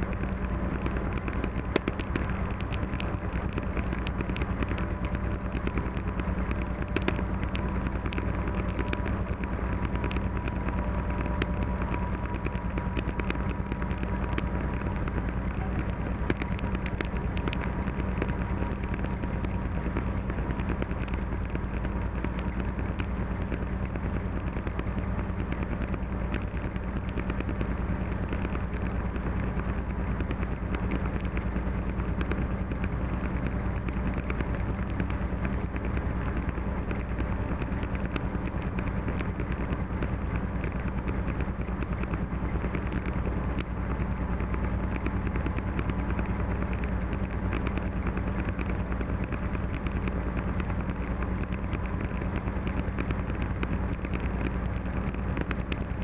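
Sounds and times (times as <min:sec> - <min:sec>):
clicks and rattles: 0:00.0 - 0:56.0
diesel engine droning: 0:00.0 - 0:56.0.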